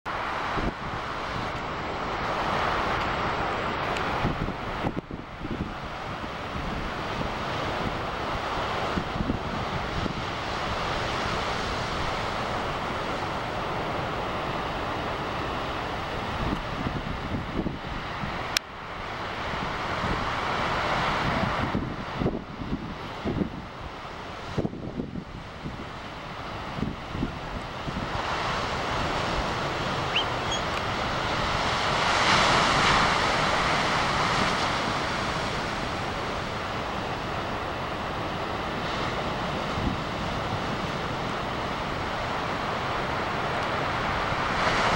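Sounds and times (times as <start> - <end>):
ocean waves breaking: 0.1 - 44.9.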